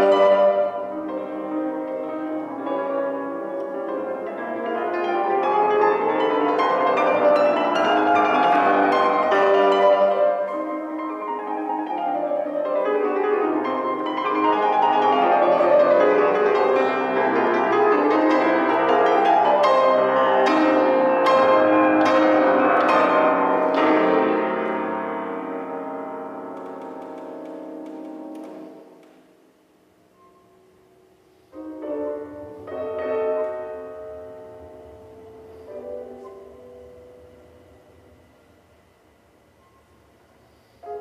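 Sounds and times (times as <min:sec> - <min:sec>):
classical solo piano: 0:00.0 - 0:29.6, 0:31.5 - 0:38.4.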